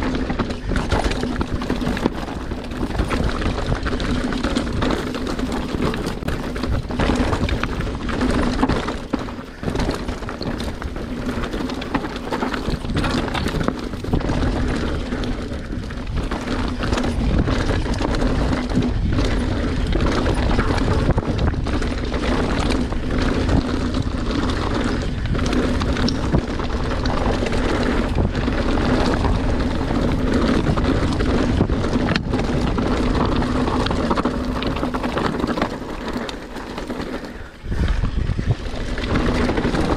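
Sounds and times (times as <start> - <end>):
bike knocking and clattering: 0.0 - 39.9
tyres rolling over rock: 0.0 - 39.9
wind rushing over microphone: 0.0 - 39.9.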